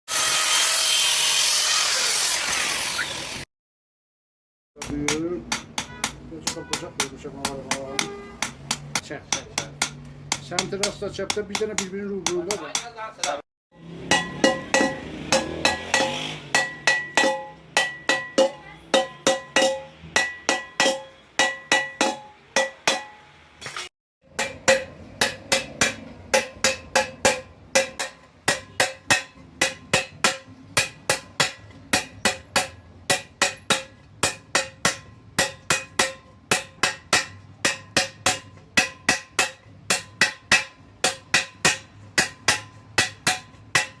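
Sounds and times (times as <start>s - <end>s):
hammer striking copper: 4.8s - 44.0s.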